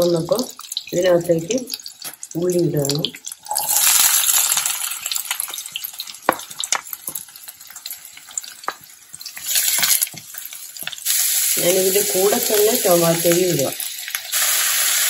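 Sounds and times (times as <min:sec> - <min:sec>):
onion sizzling in a frying pan: 0:00.0 - 0:15.0.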